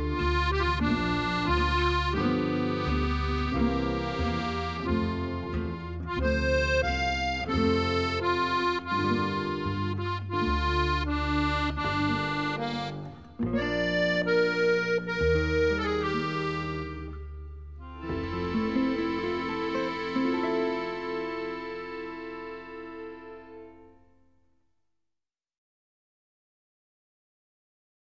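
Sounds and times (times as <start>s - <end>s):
sustained instrumental chords: 0.0s - 24.2s.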